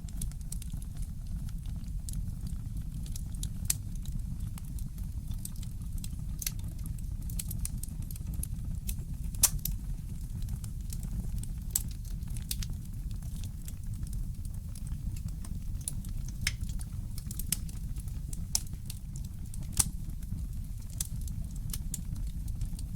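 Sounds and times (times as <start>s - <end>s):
low rumble of fire: 0.0s - 22.9s
fireplace crackling: 4.5s - 22.9s.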